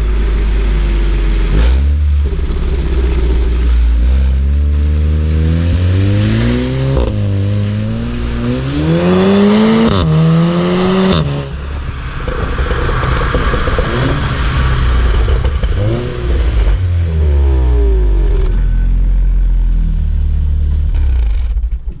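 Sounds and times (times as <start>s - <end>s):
car engine accelerating hard: 0.0s - 21.5s
crackling engine and exhaust: 0.0s - 22.0s.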